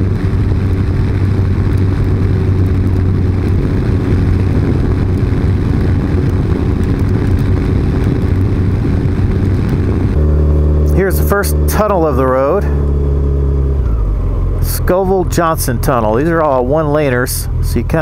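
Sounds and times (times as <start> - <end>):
motorcycle engine cruising: 0.0 - 18.0
wind and road rush: 0.0 - 18.0.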